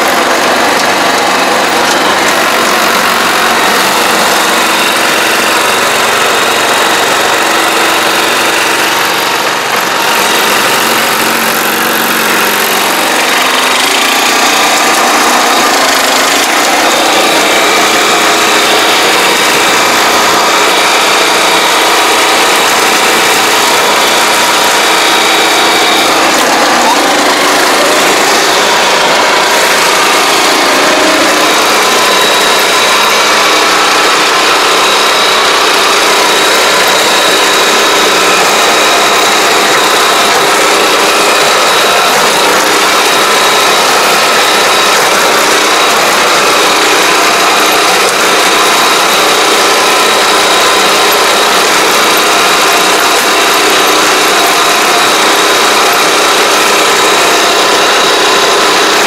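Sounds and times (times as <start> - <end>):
small engine running: 0.0 - 59.0
steady high whine: 0.0 - 59.0.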